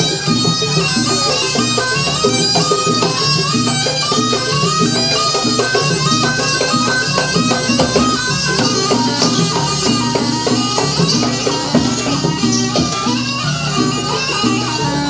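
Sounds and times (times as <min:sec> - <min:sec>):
drums and struck percussion: 0:00.0 - 0:15.0
reedy shawm melody: 0:00.0 - 0:15.0.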